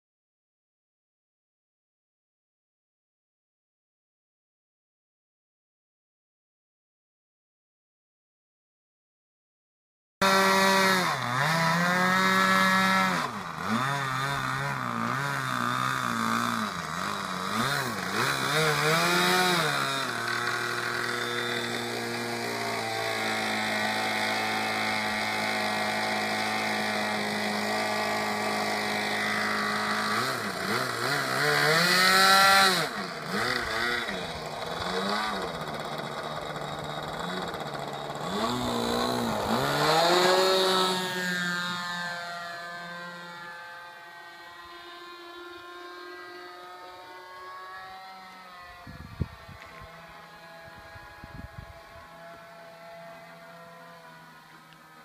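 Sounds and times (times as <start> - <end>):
model airplane engine revving: 10.2 - 55.0.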